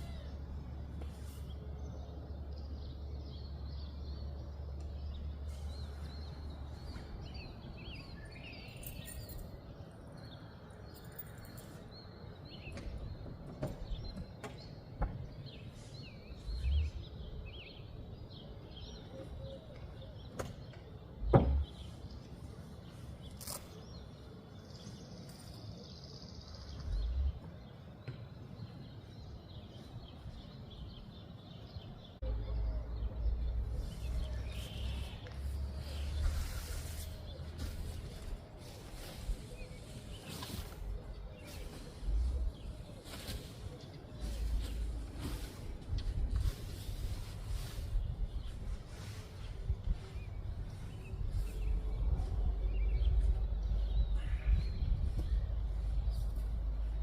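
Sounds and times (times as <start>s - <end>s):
small birds chirping: 0.0s - 57.0s
steady background noise: 0.0s - 57.0s.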